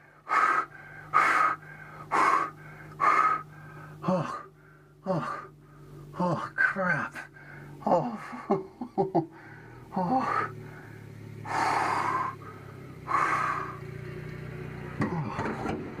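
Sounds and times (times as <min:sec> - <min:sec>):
man breathing out heavily: 0:00.0 - 0:08.6, 0:09.3 - 0:14.0.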